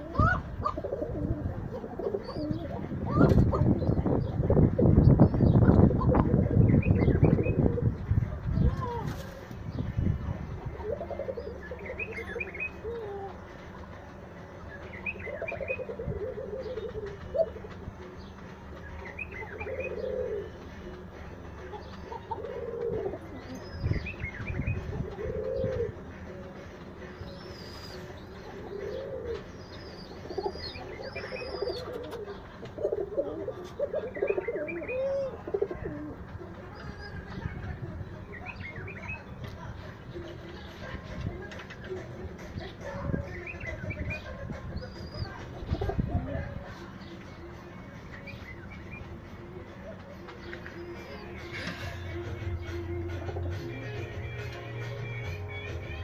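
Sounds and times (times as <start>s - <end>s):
pigeons cooing: 0.0s - 13.5s, 14.7s - 37.4s, 40.1s - 47.4s, 48.2s - 54.6s.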